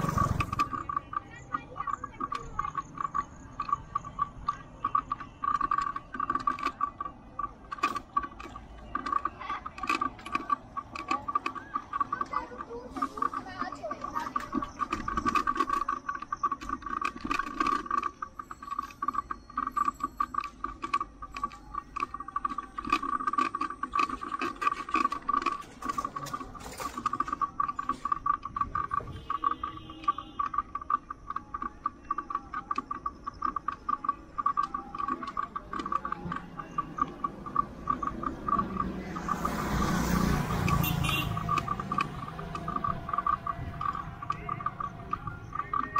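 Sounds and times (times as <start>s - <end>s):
bicycle clicking: 0.0s - 45.9s
bicycle rattling: 0.0s - 45.9s.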